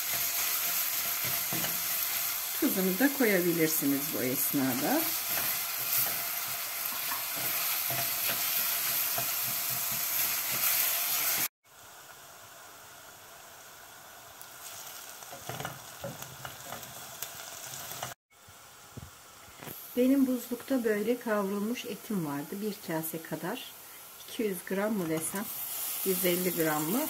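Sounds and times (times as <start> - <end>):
onion sizzling in oil: 0.0 - 27.0.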